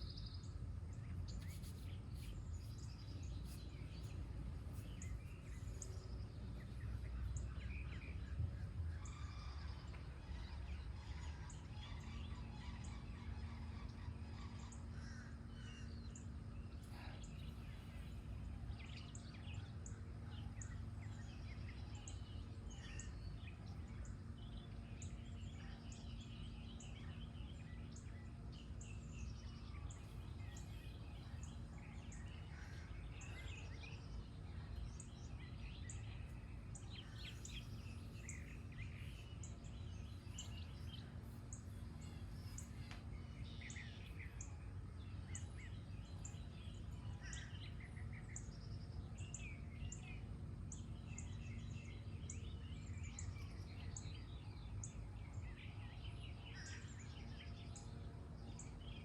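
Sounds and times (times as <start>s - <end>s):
low background rumble: 0.0s - 59.0s
songbirds singing and chirping: 0.0s - 59.0s.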